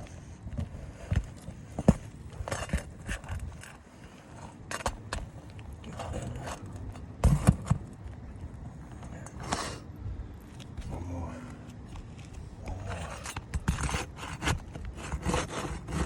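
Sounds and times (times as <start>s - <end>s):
scraping and rustling on shingles: 0.0s - 16.0s.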